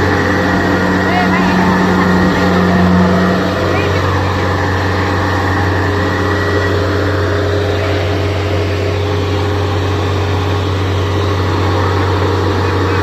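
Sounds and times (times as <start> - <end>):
diesel engine humming steadily: 0.0 - 13.0.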